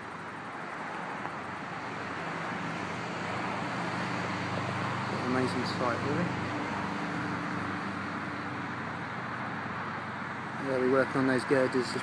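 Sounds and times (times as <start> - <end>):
outdoor noise: 0.0 - 12.0
steady engine hum: 0.0 - 12.0.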